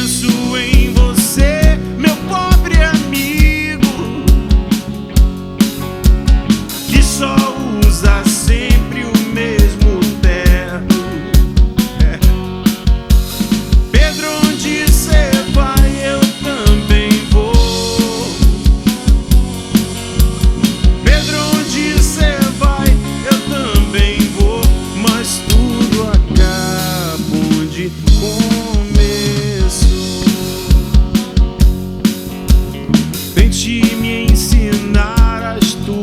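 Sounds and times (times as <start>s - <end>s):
bass: 0.0s - 36.0s
reggae band playing: 0.0s - 36.0s.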